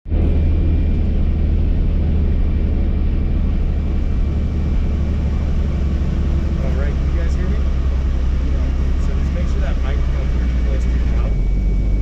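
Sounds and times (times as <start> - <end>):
helicopter engine and rotor: 0.1 - 12.0.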